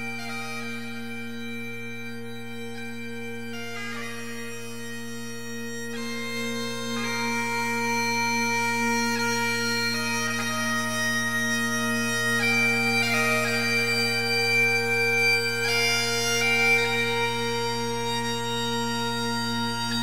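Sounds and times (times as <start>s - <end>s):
bagpipe music: 0.0s - 20.0s.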